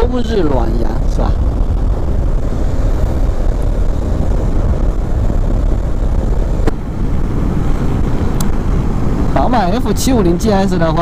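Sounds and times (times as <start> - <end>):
wind rush over microphone: 0.0 - 11.0
motorcycle engine and tyres: 1.0 - 11.0.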